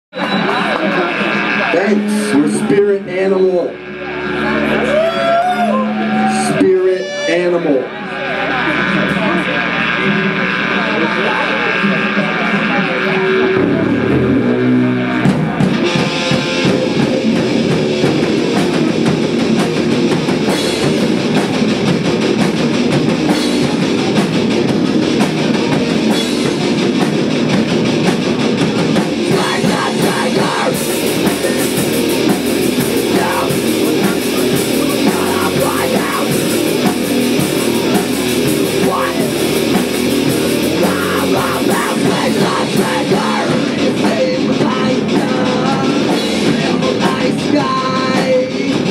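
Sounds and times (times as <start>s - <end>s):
heavy rock band playing: 0.1s - 48.9s.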